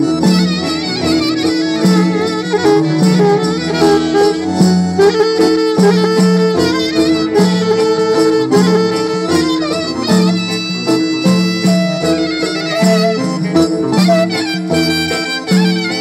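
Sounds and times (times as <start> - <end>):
folk music with bowed fiddle lead: 0.0 - 16.0.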